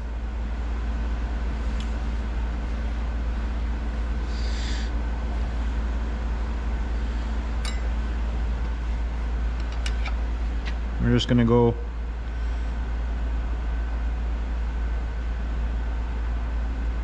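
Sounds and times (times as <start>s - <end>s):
parts washer humming: 0.0s - 17.0s.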